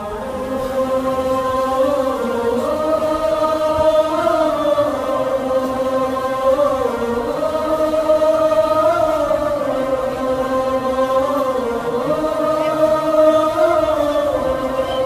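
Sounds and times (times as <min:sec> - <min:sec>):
choir chanting long notes: 0:00.0 - 0:15.0.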